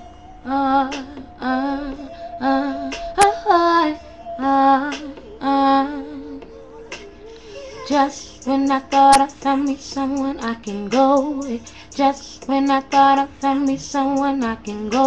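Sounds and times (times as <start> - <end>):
woman singing wordless phrases: 0.4 - 15.0.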